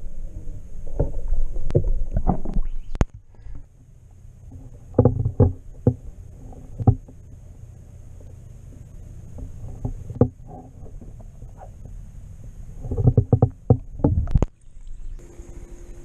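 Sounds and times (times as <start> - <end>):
underwater rumble of moving water: 0.0 - 16.0.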